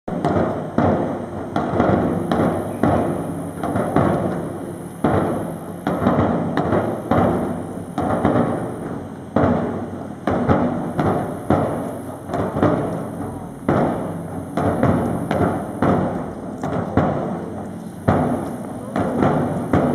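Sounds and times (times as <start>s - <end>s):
large drums beaten slowly: 0.1s - 19.9s.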